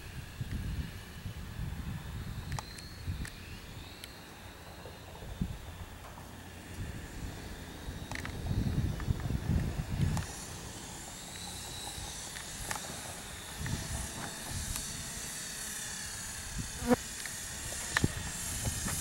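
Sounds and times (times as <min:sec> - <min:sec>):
drone propeller whine: 0:00.0 - 0:19.0
steady hiss: 0:00.0 - 0:19.0.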